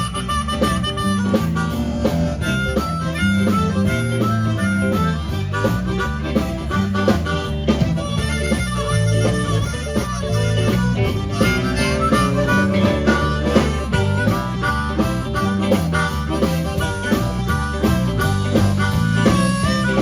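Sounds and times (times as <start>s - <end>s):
blues band playing: 0.0s - 20.0s
harmonica solo: 0.0s - 20.0s.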